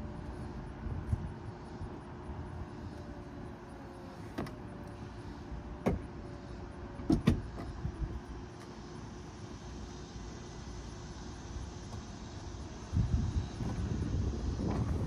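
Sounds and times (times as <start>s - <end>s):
motor hum with faint whine: 0.0s - 15.0s.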